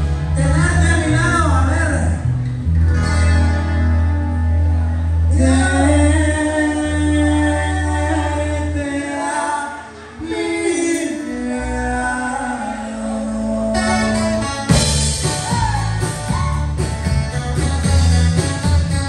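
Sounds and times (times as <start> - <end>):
bass line: 0.0 - 19.0
live band with singing: 0.0 - 19.0.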